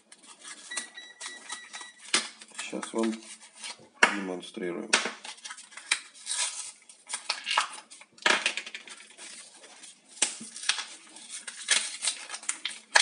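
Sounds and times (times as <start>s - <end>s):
blister pack crackling and tearing: 0.0s - 3.8s, 5.2s - 13.0s.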